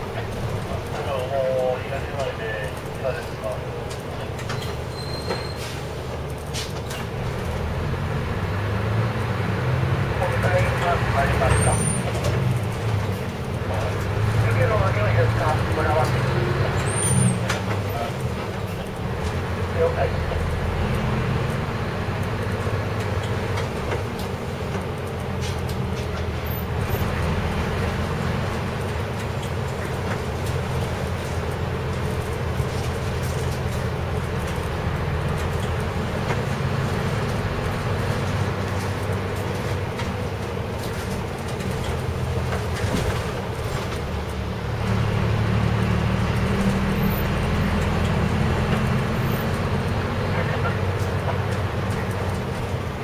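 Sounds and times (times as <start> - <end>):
bus engine drone: 0.0 - 53.0
tyres on wet slushy road: 0.0 - 53.0.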